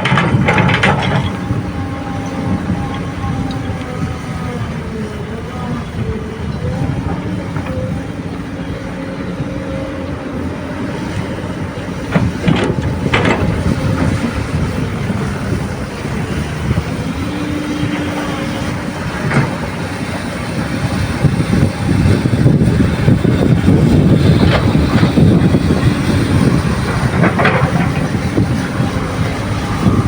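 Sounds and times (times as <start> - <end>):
excavator diesel engine under load: 0.0 - 30.0.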